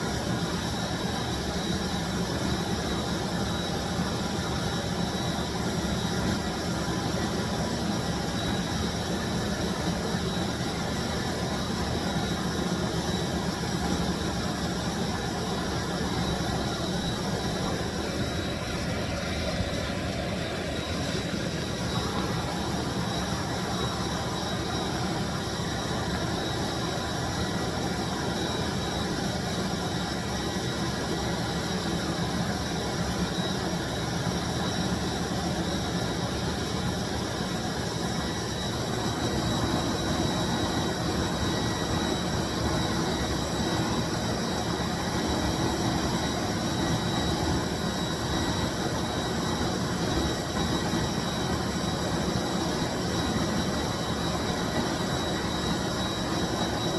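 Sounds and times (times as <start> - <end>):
cleaning machine motor whine: 0.7 - 56.9.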